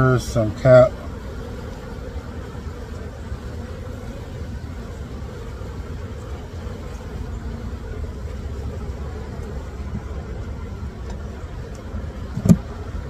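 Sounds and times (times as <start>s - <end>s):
bees humming: 0.0s - 13.0s.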